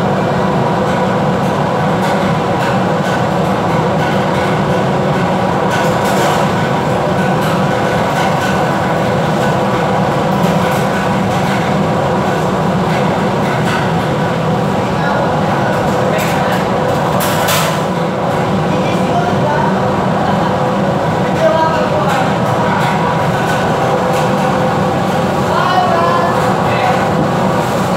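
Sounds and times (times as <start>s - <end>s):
ship machinery droning: 0.0s - 27.9s.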